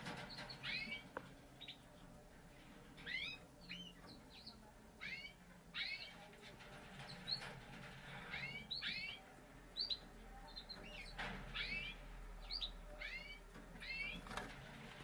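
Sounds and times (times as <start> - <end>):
canaries chirping: 0.0 - 15.0.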